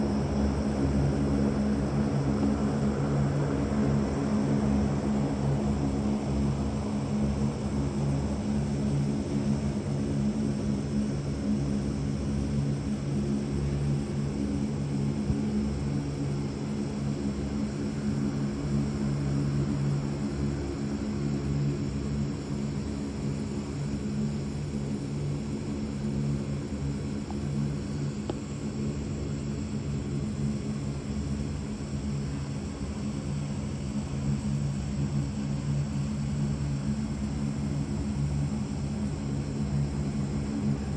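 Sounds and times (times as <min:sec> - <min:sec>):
military aircraft engines droning: 0:00.0 - 0:40.9.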